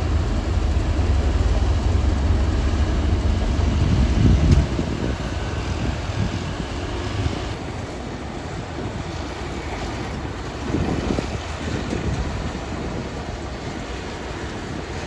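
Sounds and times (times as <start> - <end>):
distant heavy machinery rumbling: 0.0 - 15.0.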